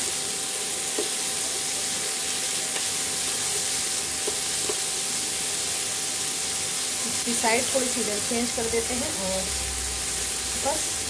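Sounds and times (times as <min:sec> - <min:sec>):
food sizzling on a hot pan: 0:00.0 - 0:11.0.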